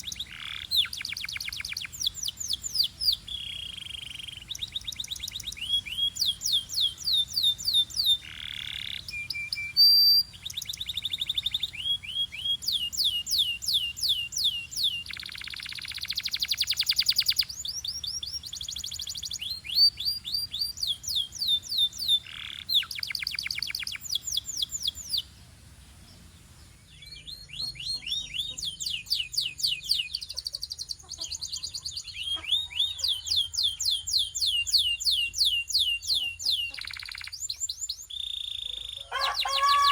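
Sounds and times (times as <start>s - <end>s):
canary singing: 0.0s - 25.4s, 26.0s - 39.9s.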